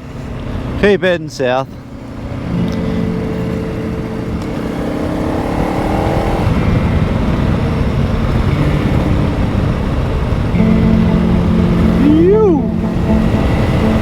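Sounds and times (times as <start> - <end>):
motorcycle engine running: 0.0 - 14.0
rushing noise: 1.9 - 14.0.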